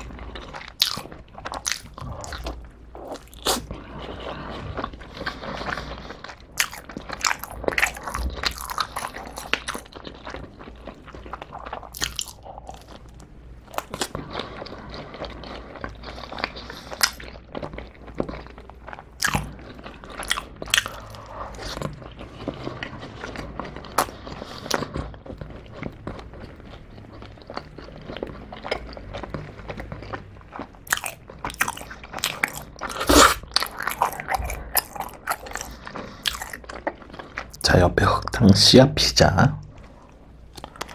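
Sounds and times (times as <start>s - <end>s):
man chewing crunchy food: 0.0s - 38.4s, 39.6s - 40.9s.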